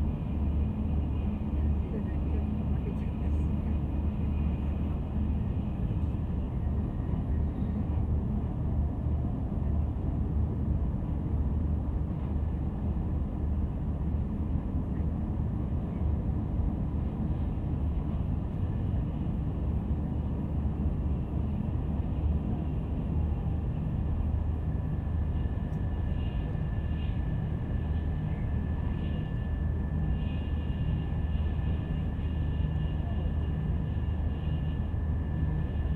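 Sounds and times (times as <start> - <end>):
faint high whine: 0.0 - 35.9
train rumbling inside passenger car: 0.0 - 35.9.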